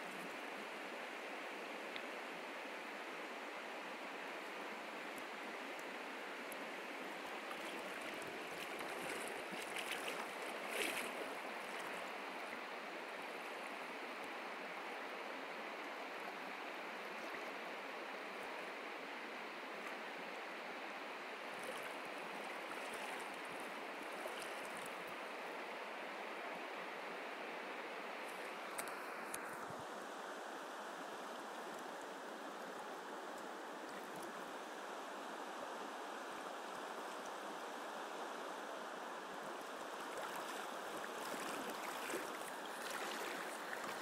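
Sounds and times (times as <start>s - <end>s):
river water running over stones: 0.0s - 44.0s.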